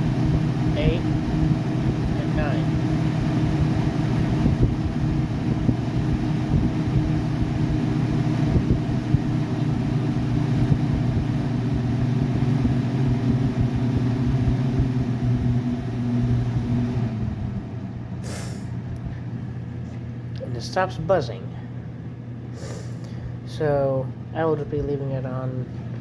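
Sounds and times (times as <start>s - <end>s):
humidifier fan buzzing hum: 0.0s - 26.0s.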